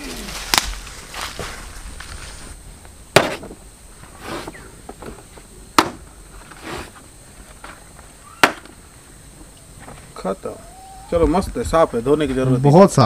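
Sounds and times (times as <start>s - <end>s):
leaves rustling: 0.0s - 12.6s.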